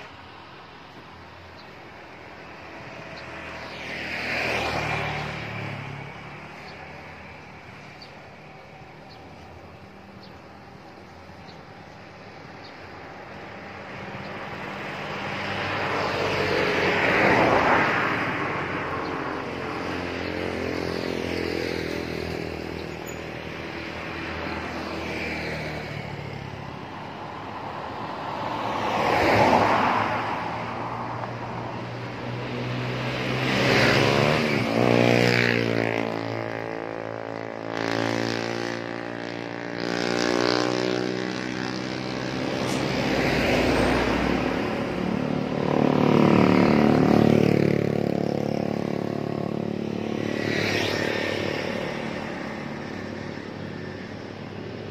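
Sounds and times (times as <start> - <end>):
buses and trucks passing: 0.0 - 54.9.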